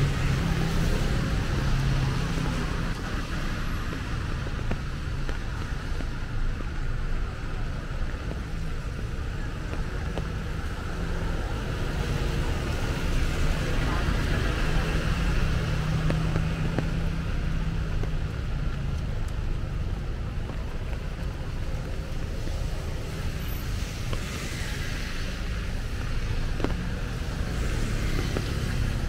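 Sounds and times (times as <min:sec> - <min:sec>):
traffic engine rumble: 0:00.0 - 0:29.0
tyres hissing on wet road: 0:00.0 - 0:29.0.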